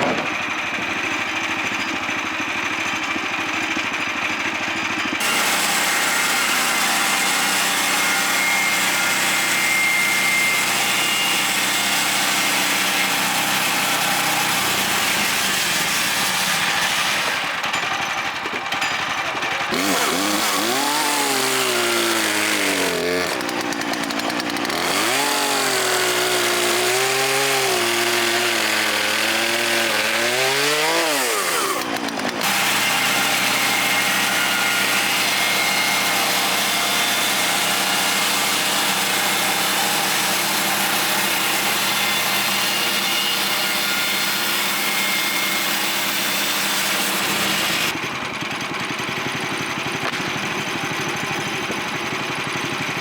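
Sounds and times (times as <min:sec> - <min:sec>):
bandsaw blade sawing wood: 0:00.0 - 0:53.0
sawmill engine running: 0:00.0 - 0:53.0.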